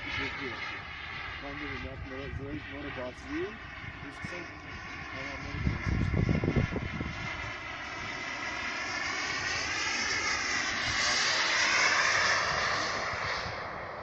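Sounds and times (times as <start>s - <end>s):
model jet turbine whining: 0.0s - 14.0s.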